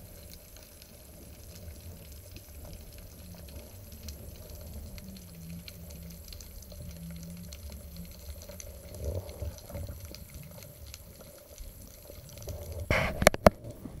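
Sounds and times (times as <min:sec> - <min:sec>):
low underwater rumble: 0:00.0 - 0:14.0
faint clicks: 0:00.1 - 0:13.8.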